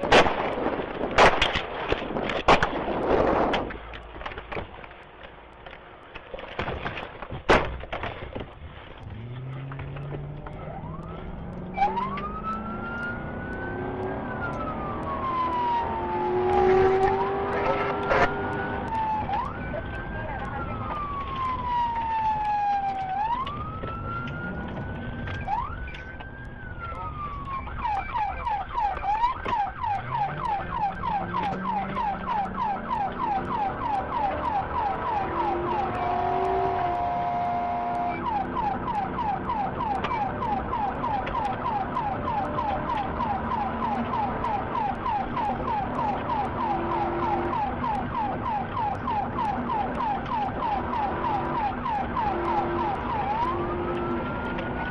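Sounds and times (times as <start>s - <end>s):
police siren wailing and yelping: 9.1s - 54.9s
siren steady tone: 9.1s - 54.9s.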